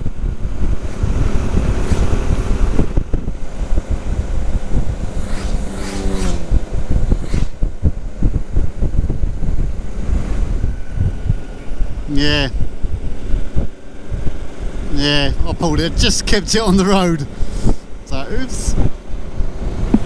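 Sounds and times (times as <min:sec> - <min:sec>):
motorcycle engine: 0:00.0 - 0:20.0
wind rumble on microphone: 0:00.0 - 0:20.0.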